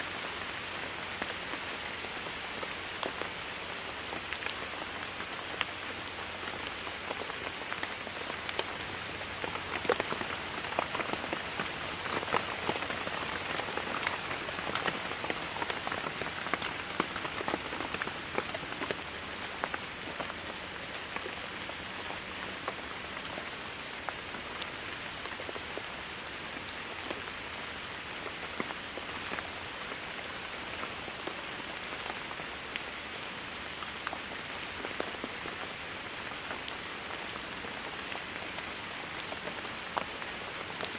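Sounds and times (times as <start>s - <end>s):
raindrops pattering: 0.0s - 40.9s
steady rainfall: 0.0s - 40.9s.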